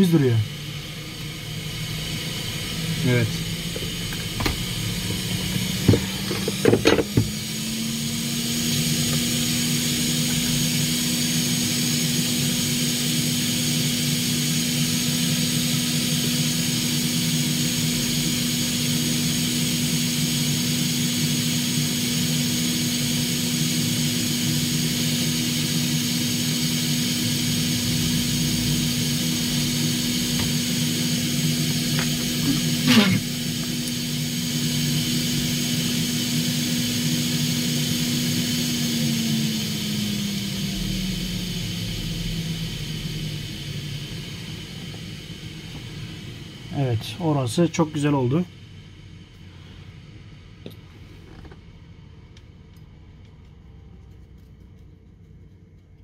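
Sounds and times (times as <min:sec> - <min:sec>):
hot air station blower hissing: 0:00.0 - 0:51.6.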